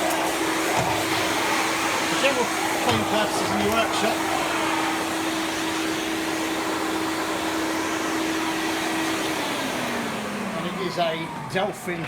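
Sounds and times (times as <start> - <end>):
wet and dry vacuum running: 0.0 - 12.0.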